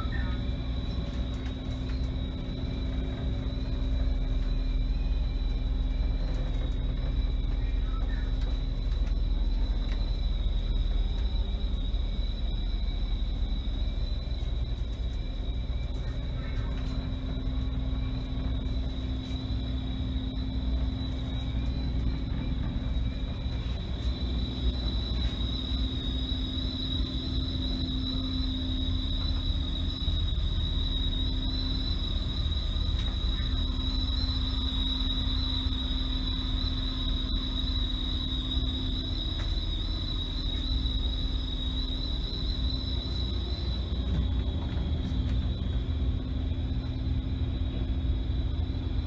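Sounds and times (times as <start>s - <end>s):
boat engine droning: 0.0s - 49.0s
high whine: 0.0s - 49.0s
low hum: 0.0s - 49.0s.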